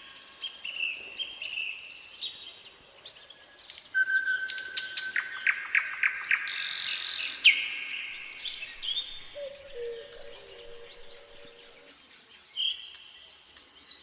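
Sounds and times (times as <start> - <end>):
nightingale singing: 0.0 - 14.0.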